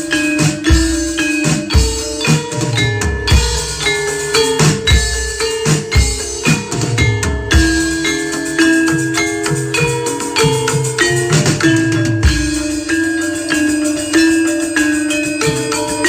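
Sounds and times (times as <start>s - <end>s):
drums beating: 0.0s - 16.0s
ringing metallophone notes: 0.0s - 16.0s.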